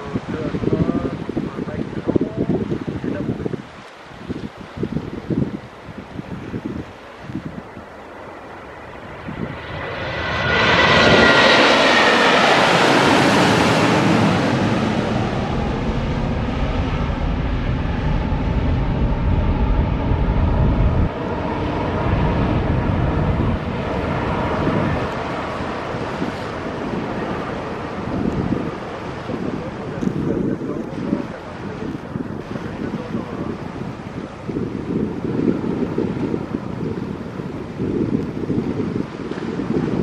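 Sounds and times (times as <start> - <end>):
jet engines at takeoff thrust: 0.0 - 40.0.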